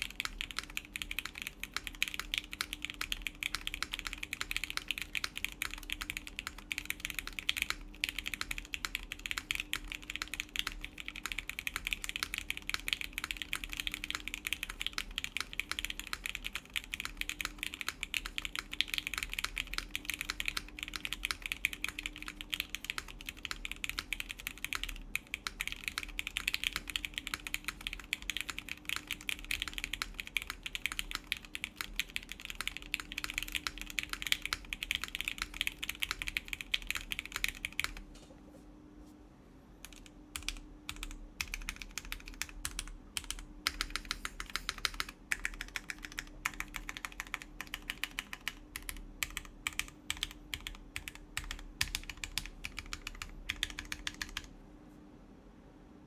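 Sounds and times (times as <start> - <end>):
fast mechanical keyboard typing: 0.0 - 38.1, 39.8 - 54.5.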